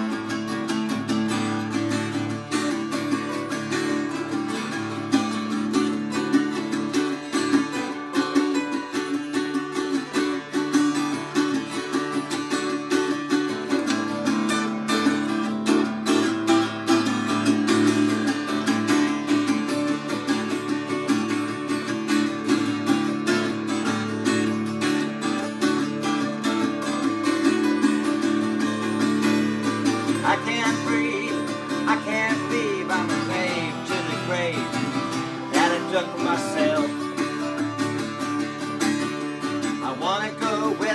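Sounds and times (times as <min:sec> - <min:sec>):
acoustic guitar picking lead: 0:00.0 - 0:40.9
acoustic guitar strumming chords: 0:00.0 - 0:40.9.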